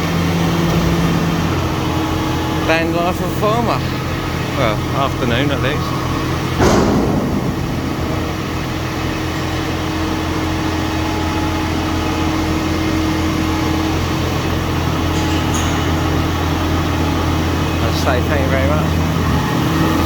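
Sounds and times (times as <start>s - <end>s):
farm machine engine humming: 0.0s - 20.0s.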